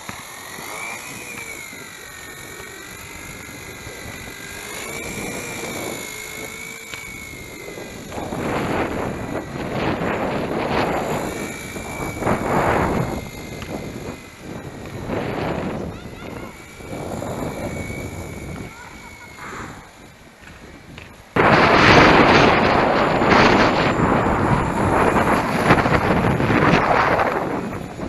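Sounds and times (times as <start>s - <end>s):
rc helicopter rotor whine: 0.0s - 28.0s
wind gusts on microphone: 0.0s - 28.0s.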